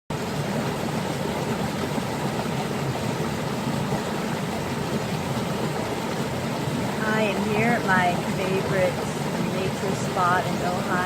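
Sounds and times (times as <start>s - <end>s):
river water rushing: 0.1s - 11.0s.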